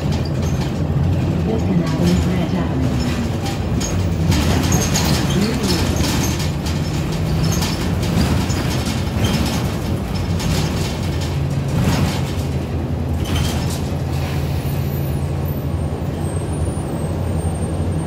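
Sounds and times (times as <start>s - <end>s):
bus body rattles: 0.0s - 18.0s
bus engine drone: 0.0s - 18.0s.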